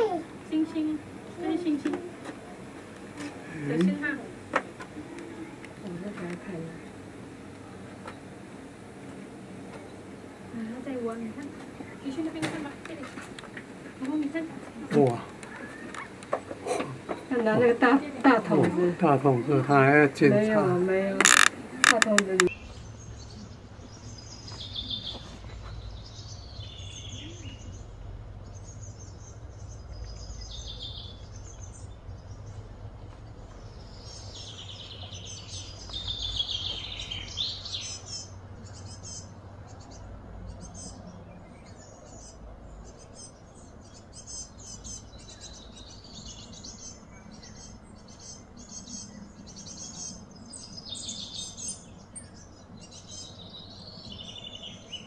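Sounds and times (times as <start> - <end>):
birds chirping: 0.0 - 55.0
faint steady low hum: 0.0 - 55.0.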